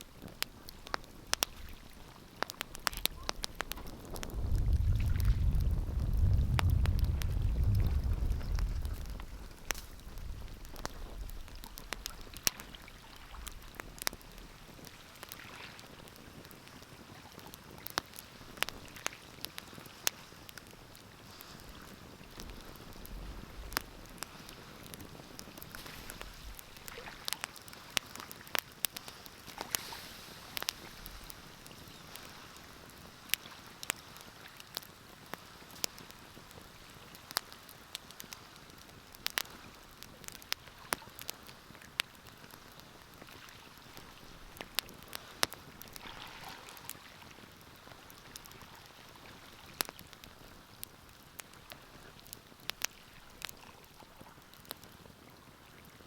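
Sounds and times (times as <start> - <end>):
wood fire crackling: 0.0 - 55.2.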